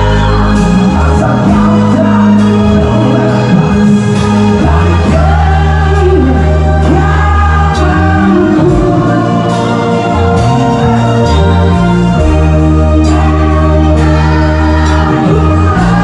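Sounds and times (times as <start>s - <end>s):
lead vocalist singing: 0.0s - 16.0s
live band music: 0.0s - 16.0s.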